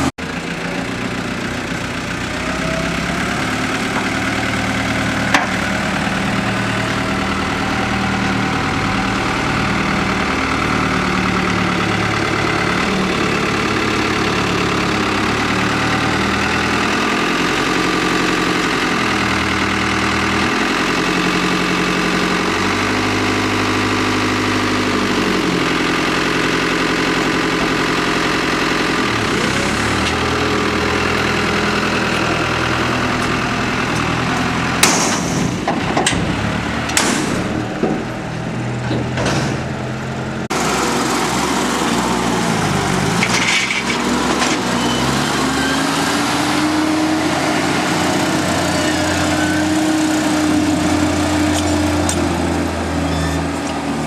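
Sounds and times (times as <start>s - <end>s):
tractor engines revving: 0.0s - 54.0s.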